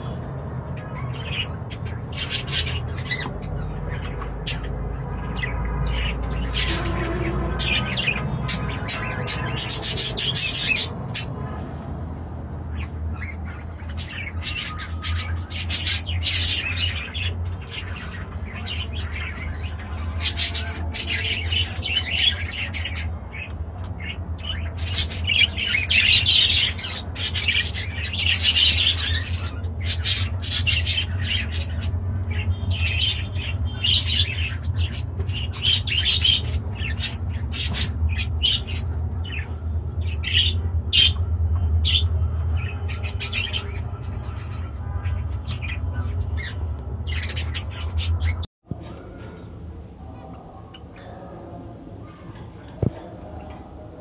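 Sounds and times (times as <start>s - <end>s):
parrots chattering and squawking: 0.0s - 11.9s, 12.6s - 48.5s.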